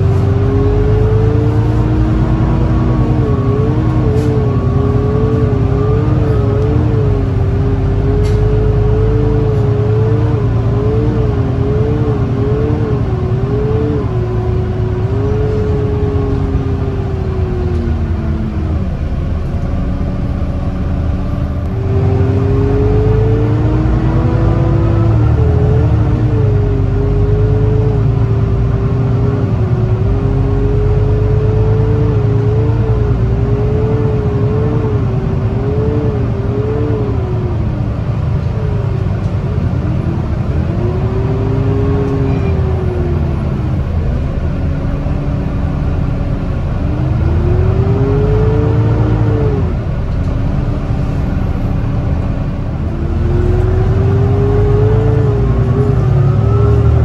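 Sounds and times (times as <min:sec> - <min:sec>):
bus whining tone: 0:00.0 - 0:57.0
diesel bus engine rumble: 0:00.0 - 0:57.0.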